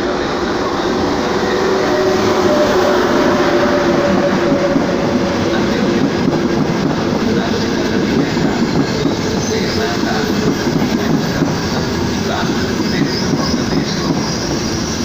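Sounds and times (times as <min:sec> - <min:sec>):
faint train whine: 0:00.0 - 0:15.0
train wheels rumbling on rails: 0:00.0 - 0:15.0.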